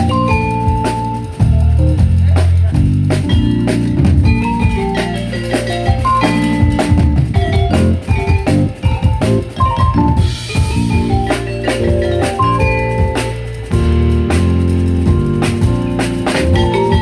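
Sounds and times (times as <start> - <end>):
deep steady bass: 0.0 - 17.0
drum kit hits: 0.0 - 17.0.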